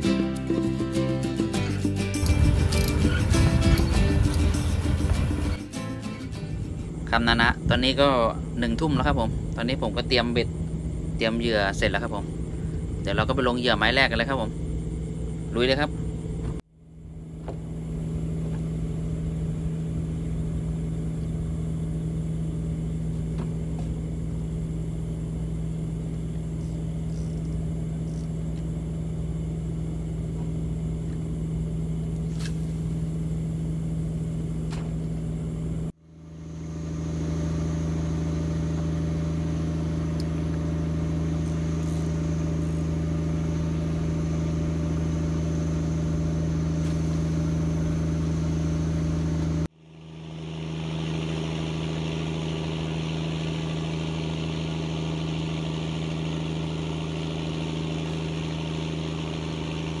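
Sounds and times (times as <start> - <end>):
engine humming: 0.0 - 60.0.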